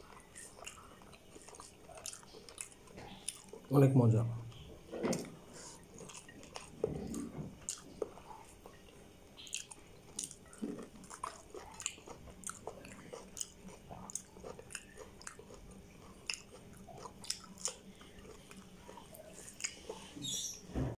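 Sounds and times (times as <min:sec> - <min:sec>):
person chewing and smacking: 0:00.0 - 0:03.7, 0:04.5 - 0:20.6.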